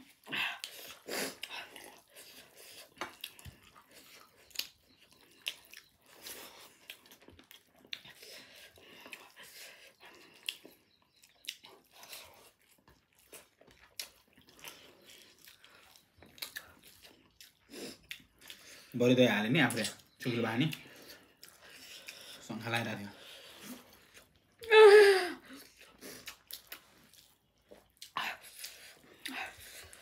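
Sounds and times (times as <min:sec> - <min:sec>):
people chewing food: 0:00.0 - 0:30.0.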